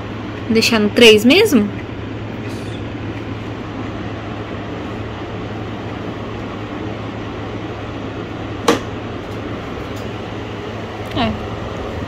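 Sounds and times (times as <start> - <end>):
air cooler fan rushing: 0.0 - 12.0.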